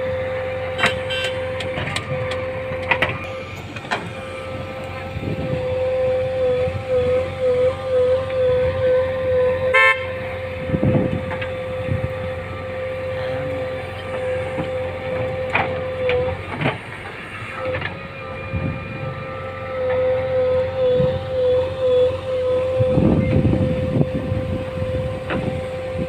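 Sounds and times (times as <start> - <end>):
machinery whine and rumble: 0.0 - 26.0.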